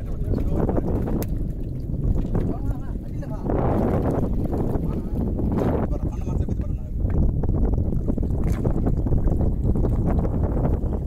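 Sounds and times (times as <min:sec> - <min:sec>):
water slapping against boat: 0:00.0 - 0:11.0
wind buffeting microphone: 0:00.0 - 0:11.0.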